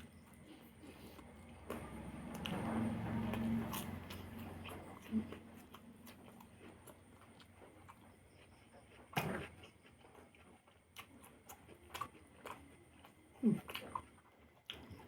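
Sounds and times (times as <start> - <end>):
chewing with mouth clicks: 0.0 - 15.0.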